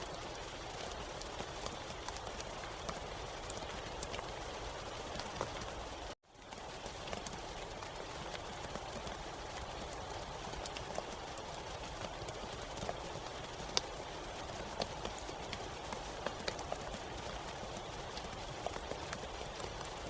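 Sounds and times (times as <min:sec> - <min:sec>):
sharp rain drop ticks: 0:00.0 - 0:20.0
steady rain: 0:00.0 - 0:20.0.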